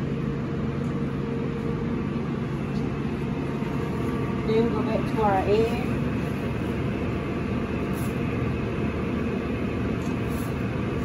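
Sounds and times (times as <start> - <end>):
gas burner rumbling: 0.0 - 11.0
water boiling in a pot: 0.0 - 11.0.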